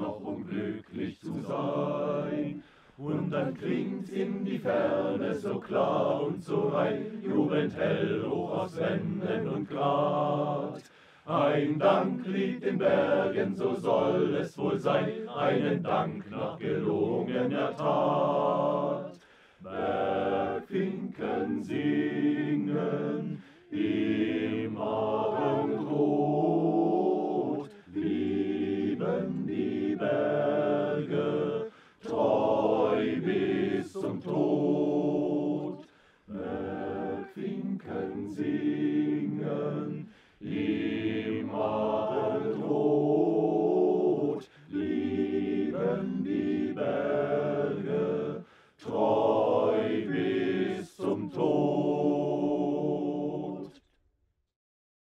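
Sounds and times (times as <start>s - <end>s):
choir singing a cappella: 0.0s - 53.9s.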